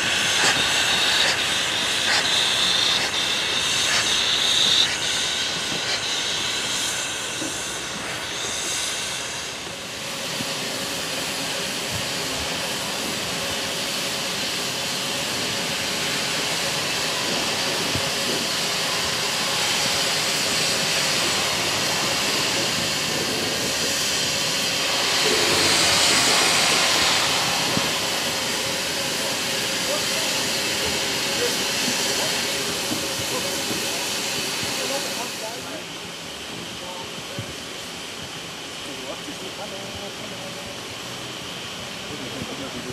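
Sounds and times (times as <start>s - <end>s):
steam locomotive hissing: 0.0s - 42.9s.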